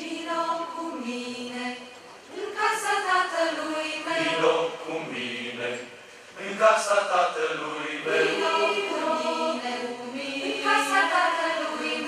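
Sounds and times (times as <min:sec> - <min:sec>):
large choir singing: 0:00.0 - 0:05.8, 0:06.4 - 0:12.0.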